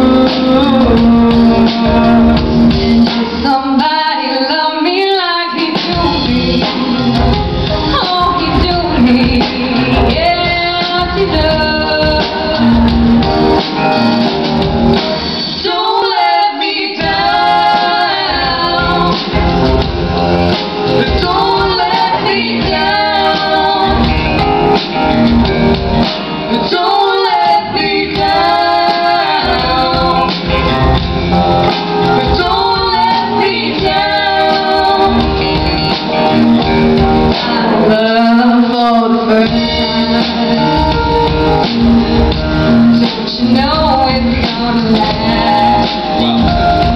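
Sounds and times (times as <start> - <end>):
live band playing: 0.0 - 46.9
woman singing lead: 0.0 - 46.9.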